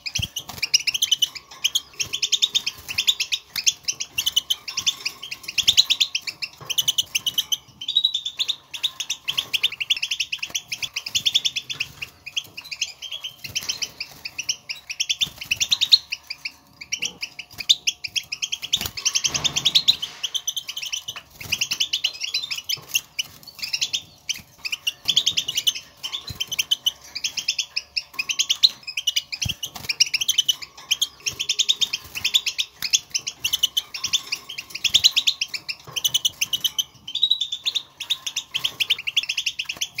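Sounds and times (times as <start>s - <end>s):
finches twittering: 0.0s - 40.0s.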